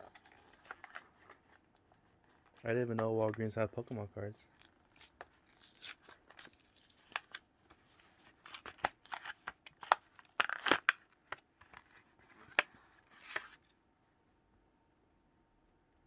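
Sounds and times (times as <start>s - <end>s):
packaging rustling and crinkling: 0.0s - 13.6s.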